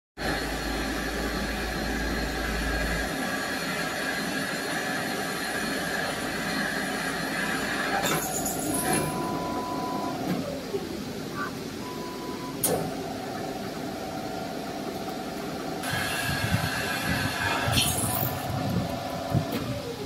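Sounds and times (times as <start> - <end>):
machine whine: 0.2 - 11.2, 11.8 - 20.0.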